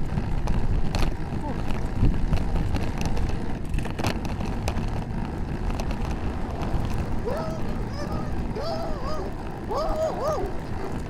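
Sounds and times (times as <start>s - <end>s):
road rumble: 0.0s - 11.0s
wind rushing over microphone: 0.0s - 11.0s.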